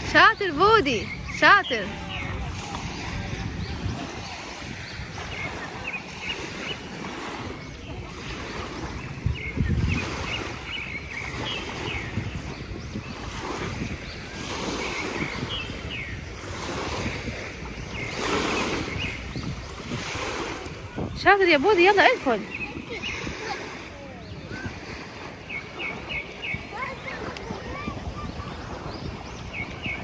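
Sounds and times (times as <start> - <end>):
small waves washing on shore: 0.0 - 30.0
wind buffeting microphone: 0.0 - 30.0.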